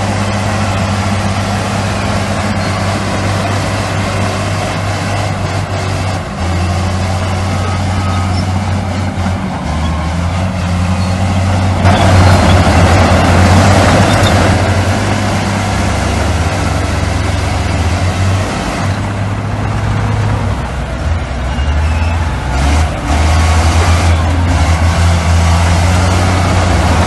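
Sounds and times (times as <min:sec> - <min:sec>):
diesel machinery engine drone: 0:00.0 - 0:27.0.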